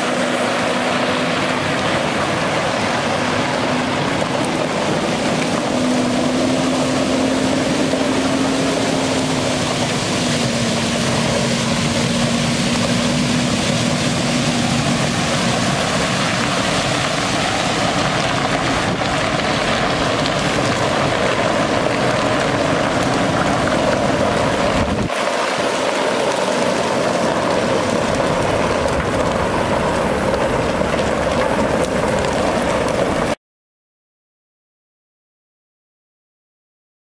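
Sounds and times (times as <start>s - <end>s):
diesel truck engine running: 0.0s - 33.4s
water gushing onto gravel: 0.0s - 33.4s.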